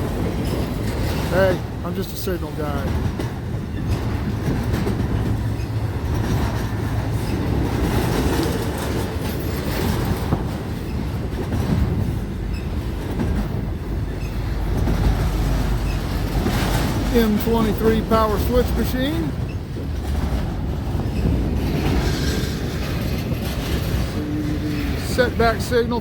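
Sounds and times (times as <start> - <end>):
freight train wheels rumbling: 0.0 - 26.0
wheels clicking over rail joints: 0.0 - 26.0.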